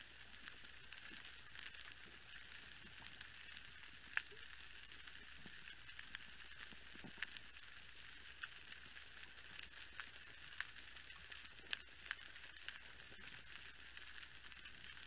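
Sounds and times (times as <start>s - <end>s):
underwater crackling hiss: 0.0s - 15.0s.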